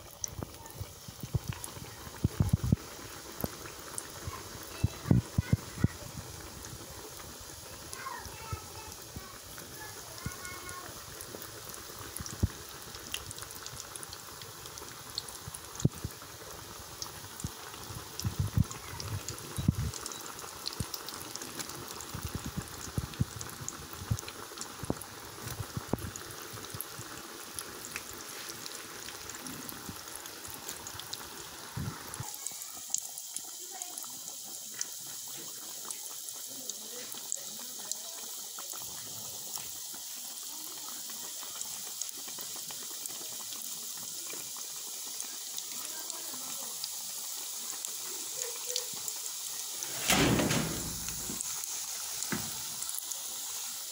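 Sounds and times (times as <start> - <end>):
dough sizzling in hot oil: 0.0 - 53.9.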